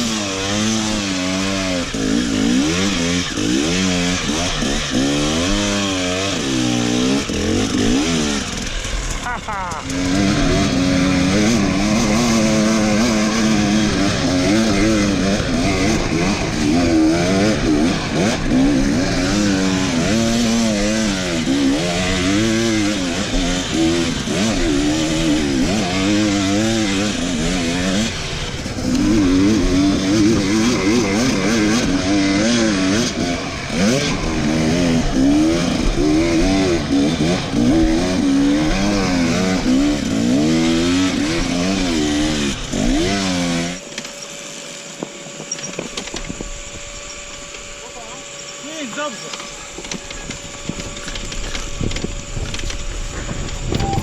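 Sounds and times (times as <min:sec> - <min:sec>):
dirt bike engine revving: 0:00.0 - 0:43.9, 0:47.7 - 0:54.0.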